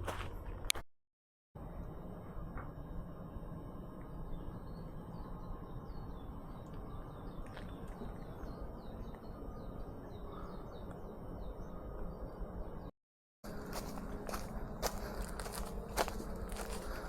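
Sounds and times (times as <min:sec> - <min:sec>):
low background rumble: 0:01.6 - 0:12.9, 0:13.5 - 0:17.0.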